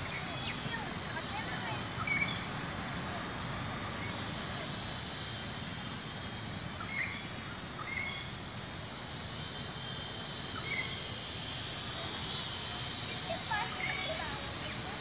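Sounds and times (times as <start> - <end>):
toy drone propeller buzz: 0.0 - 15.0.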